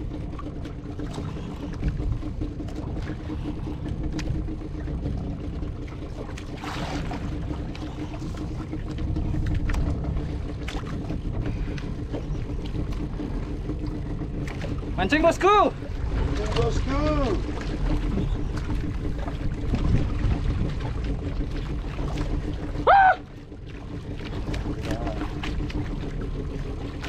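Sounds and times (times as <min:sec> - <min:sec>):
boat engine humming: 0:00.0 - 0:27.0
sea noise: 0:00.0 - 0:27.0
wind: 0:00.0 - 0:27.0.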